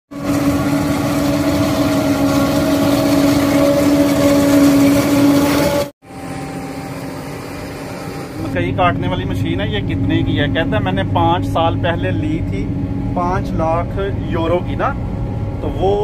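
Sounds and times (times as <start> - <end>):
farm machinery engine drone: 0.1 - 16.0
loud machine drone: 0.1 - 16.0.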